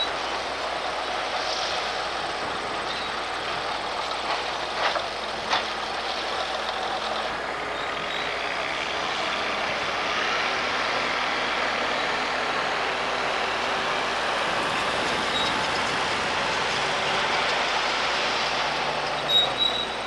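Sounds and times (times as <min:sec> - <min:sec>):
construction machinery and trucks running: 0:00.0 - 0:20.0.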